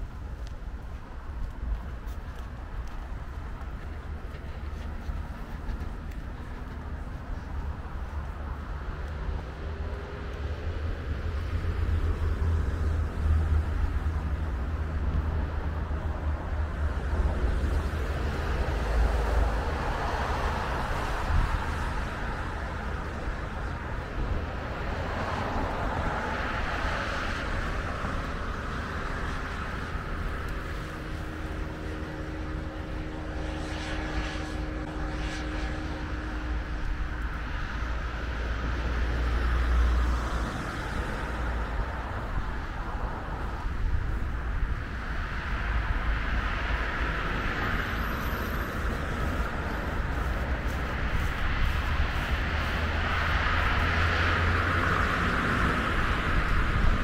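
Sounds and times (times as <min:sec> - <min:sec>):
road traffic rumble: 0:00.0 - 0:57.0
vehicles passing: 0:00.0 - 0:57.0.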